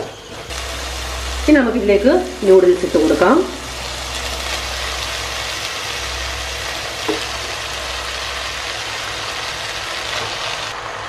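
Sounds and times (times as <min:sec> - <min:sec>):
stir-fry sizzling in a pan: 0:00.0 - 0:11.0
low steady hum: 0:00.1 - 0:11.0.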